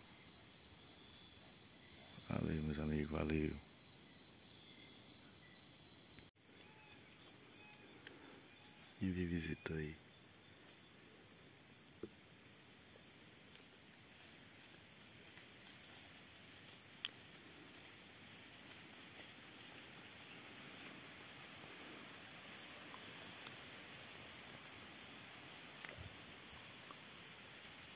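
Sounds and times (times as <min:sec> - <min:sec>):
crickets trilling: 0:00.0 - 0:27.9.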